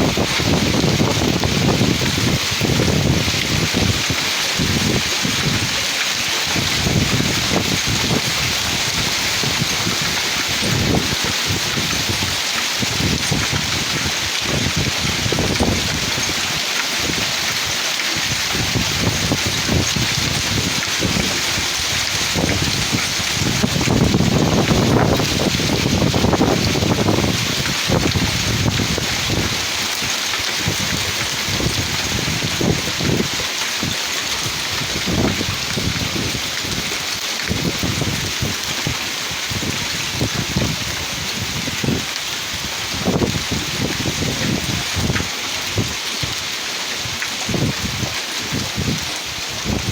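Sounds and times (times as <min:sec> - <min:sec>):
heavy rain hiss: 0:00.0 - 0:49.9
wind buffeting microphone: 0:00.0 - 0:49.9.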